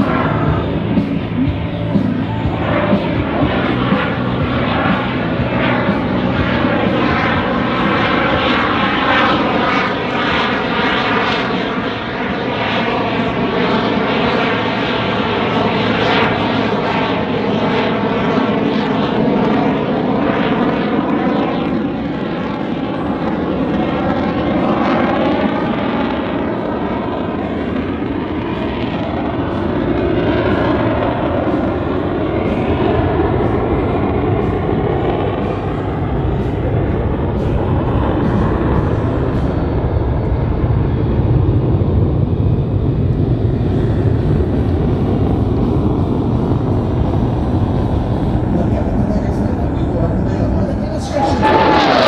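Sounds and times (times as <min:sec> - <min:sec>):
jet engine roar: 0:00.0 - 0:52.0.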